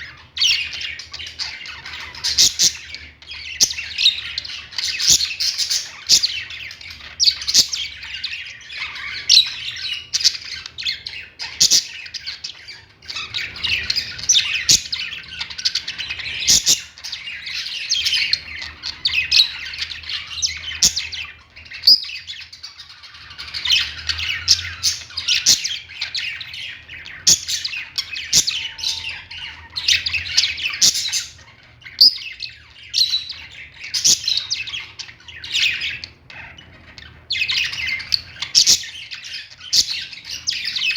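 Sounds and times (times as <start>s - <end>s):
birds chirping and squawking: 0.0s - 40.9s.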